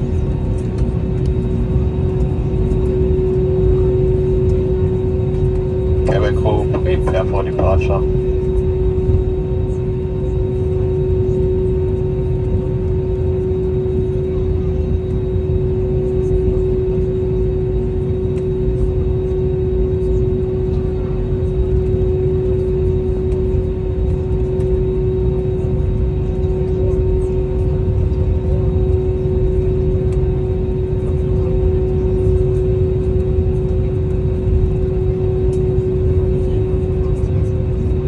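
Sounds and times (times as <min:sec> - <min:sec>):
jet engines rumbling: 0:00.0 - 0:38.0
mid-pitched hum: 0:00.0 - 0:38.0.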